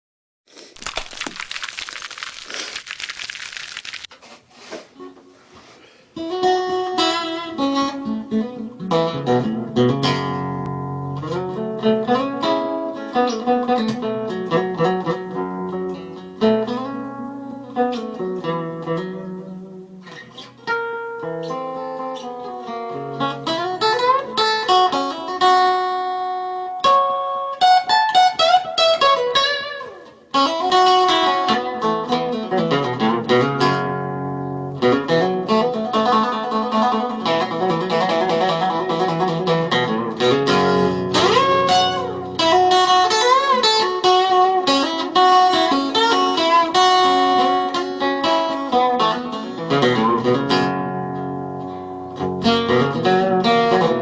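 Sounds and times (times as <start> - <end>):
acoustic blues guitar: 6.2 - 54.0.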